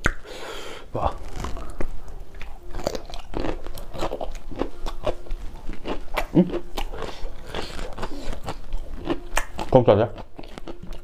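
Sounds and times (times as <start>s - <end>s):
crunchy chewing: 1.0s - 11.0s.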